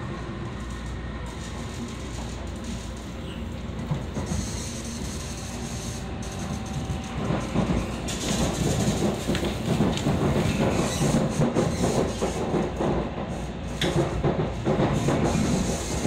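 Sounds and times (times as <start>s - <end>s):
train running on track: 0.0s - 16.0s.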